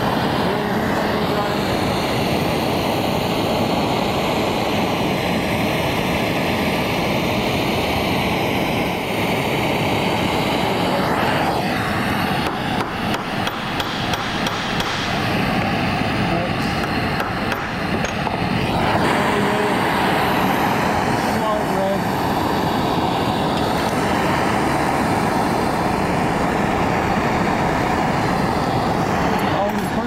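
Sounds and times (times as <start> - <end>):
gas torch flame rushing: 0.0 - 30.0.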